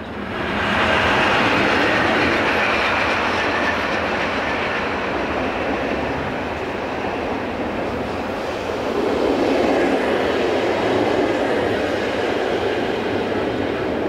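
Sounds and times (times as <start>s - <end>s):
train wheels clickety-clack on points: 0.0s - 14.0s.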